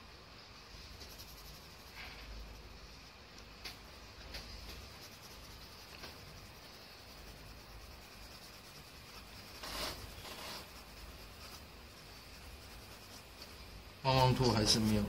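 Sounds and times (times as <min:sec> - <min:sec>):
pencil scratching on paper: 0:00.8 - 0:03.0, 0:03.8 - 0:15.0.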